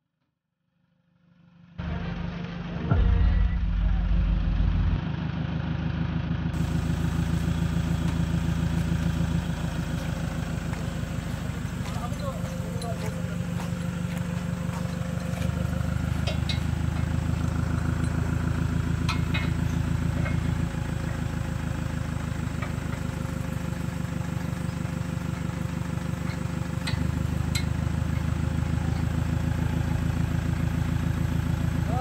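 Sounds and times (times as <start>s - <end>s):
diesel engine idling: 1.8s - 32.0s.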